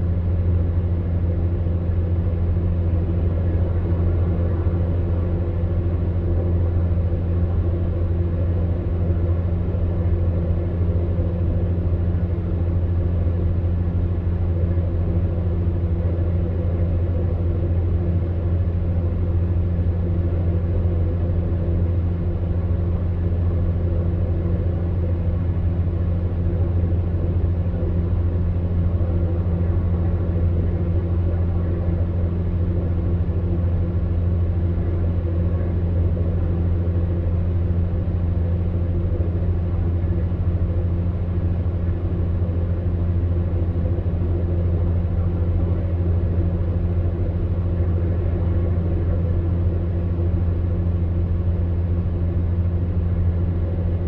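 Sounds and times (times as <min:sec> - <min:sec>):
fan heater humming: 0:00.0 - 0:54.0.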